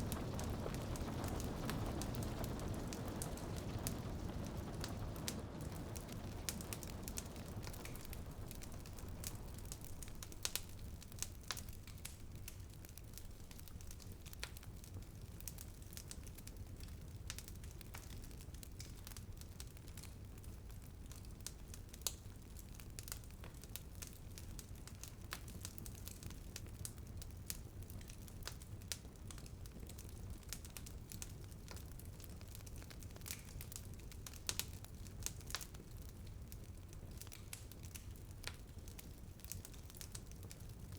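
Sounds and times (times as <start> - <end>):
rain pattering on window: 0.0 - 40.9
wood fire crackling and popping: 0.0 - 40.9.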